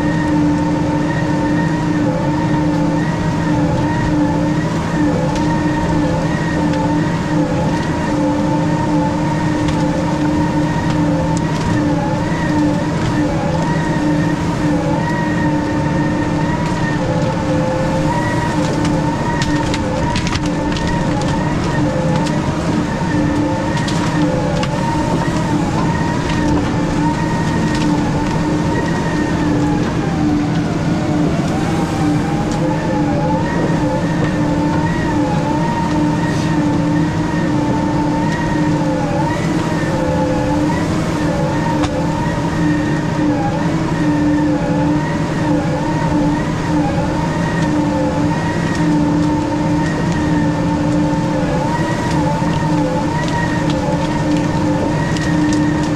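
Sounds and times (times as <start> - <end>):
skidder machine drone: 0.0 - 55.9.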